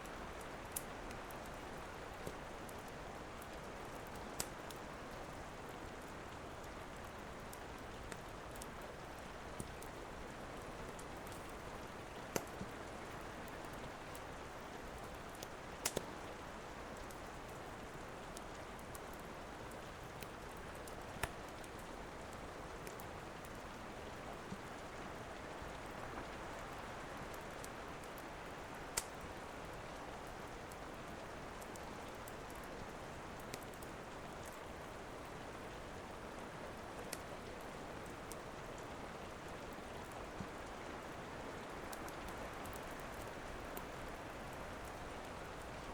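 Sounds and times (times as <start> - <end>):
wood fire crackling: 0.1 - 45.9.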